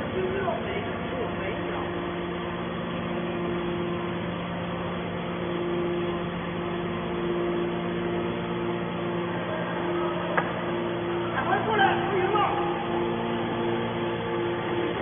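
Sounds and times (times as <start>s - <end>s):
hydraulic baler humming: 0.0s - 15.0s.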